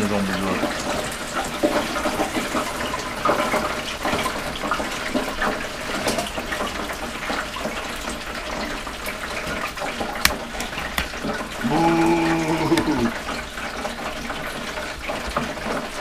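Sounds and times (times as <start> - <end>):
hot oil sizzling and bubbling: 0.0 - 16.0
oil crackles and pops: 1.0 - 16.0.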